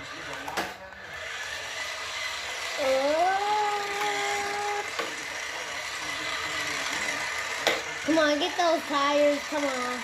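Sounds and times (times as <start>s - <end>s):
electric toy car motor whining: 0.0s - 10.0s.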